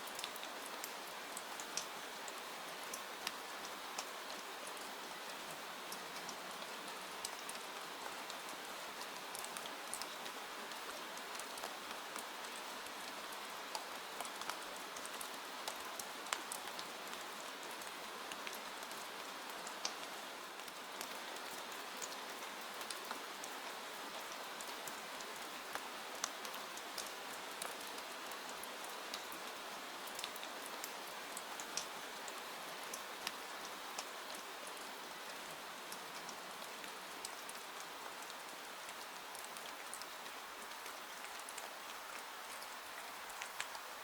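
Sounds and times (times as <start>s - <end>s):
steady rain with drop ticks: 0.0s - 44.0s.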